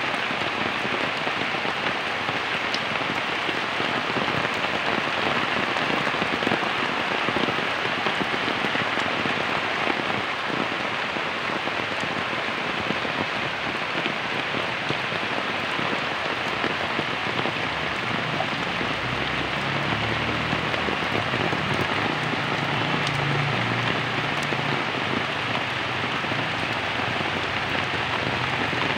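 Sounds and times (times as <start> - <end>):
heavy rain on wet ground: 0.0 - 28.9.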